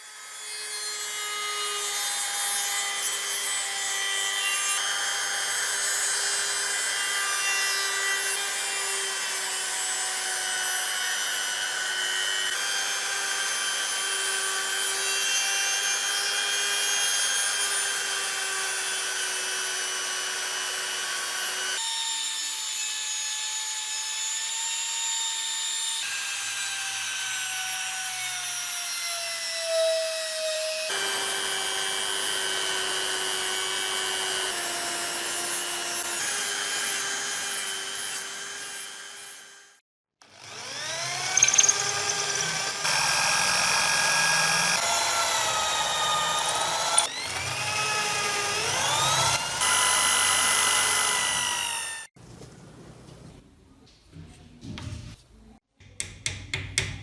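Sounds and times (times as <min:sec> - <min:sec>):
power tool grinding metal: 0:00.0 - 0:52.2.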